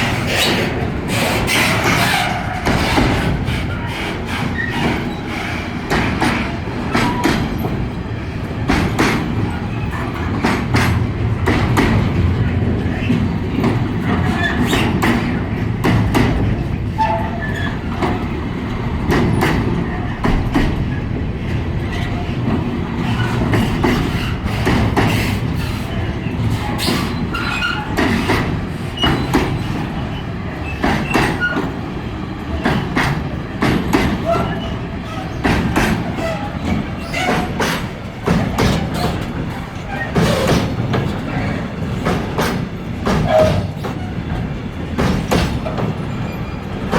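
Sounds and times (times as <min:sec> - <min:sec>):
train wagons rumbling past: 0:00.0 - 0:46.9
wheels clacking over rail joints: 0:00.0 - 0:46.9.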